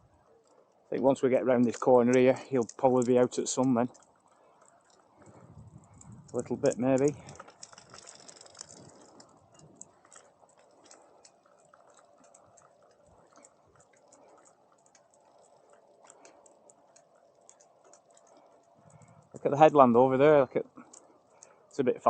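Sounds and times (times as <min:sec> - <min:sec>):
soft ticks and clicks: 0:00.0 - 0:22.0.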